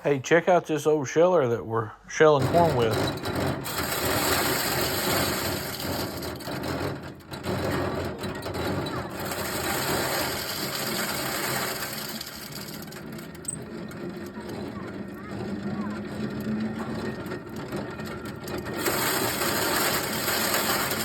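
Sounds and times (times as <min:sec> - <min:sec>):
corn sheller clattering: 0:02.3 - 0:21.0.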